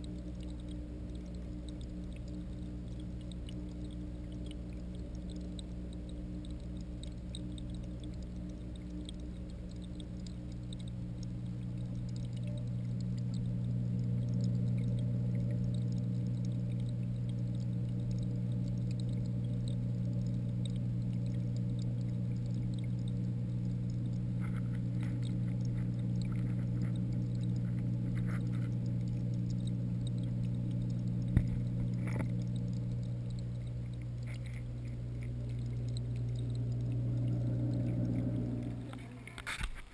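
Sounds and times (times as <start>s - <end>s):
aquarium pumps humming underwater: 0.0s - 39.9s
faint clicks: 0.0s - 39.9s.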